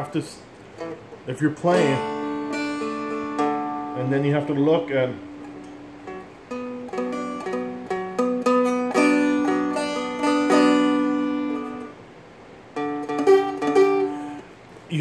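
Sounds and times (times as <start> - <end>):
strumstick picked notes: 0.6 - 12.0, 12.7 - 14.7.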